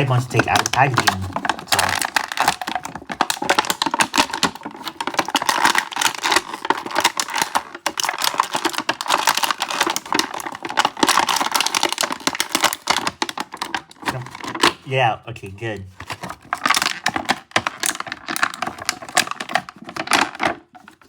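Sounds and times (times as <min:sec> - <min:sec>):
toy packaging crinkling and snapping: 0:00.0 - 0:14.9, 0:16.0 - 0:21.0.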